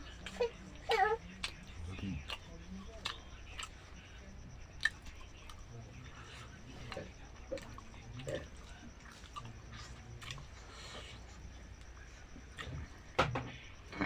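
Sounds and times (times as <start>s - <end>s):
soft chewing and mouth clicks: 0.0s - 14.0s.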